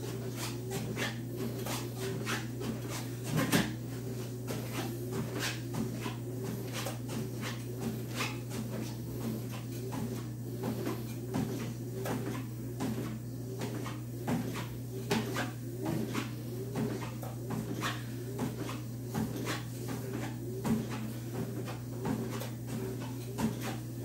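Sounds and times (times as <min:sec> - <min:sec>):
footsteps on treadmill belt: 0:00.0 - 0:24.0
treadmill motor hum and whine: 0:00.0 - 0:24.0.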